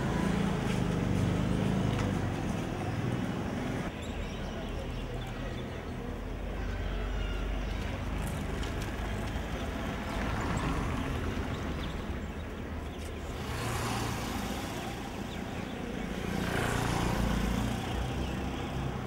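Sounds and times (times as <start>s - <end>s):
cars and motorbikes passing: 0.0s - 5.2s, 7.2s - 19.0s.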